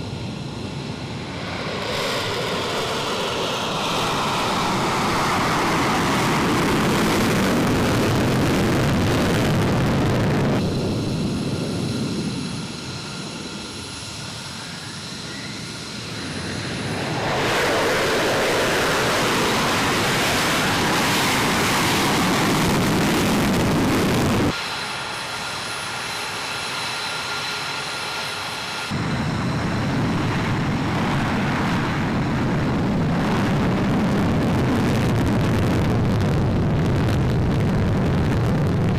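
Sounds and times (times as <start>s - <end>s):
high turbine whine: 0.0s - 38.9s
jet engine roar: 0.0s - 38.9s.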